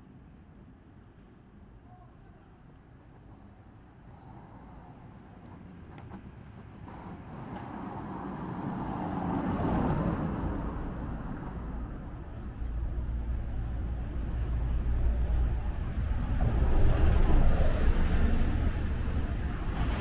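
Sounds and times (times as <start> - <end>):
bus engine and tyre rumble: 0.0 - 20.0.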